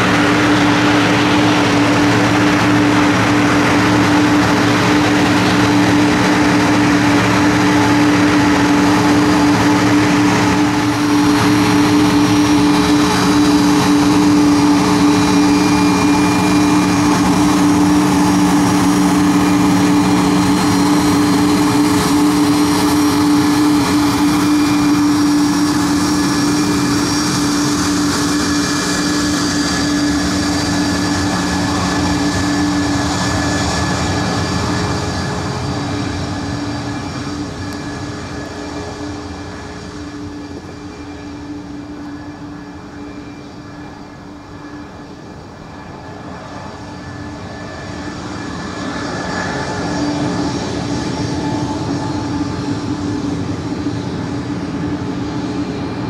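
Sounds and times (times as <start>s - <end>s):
turboprop aircraft propeller drone: 0.0s - 56.0s.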